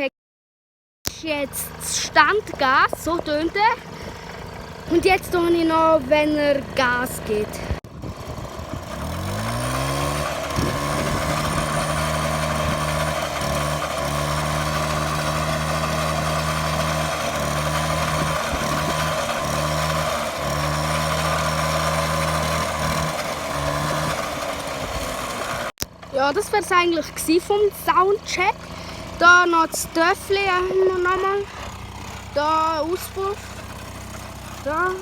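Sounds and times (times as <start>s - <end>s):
moped engine revving: 1.1s - 35.0s.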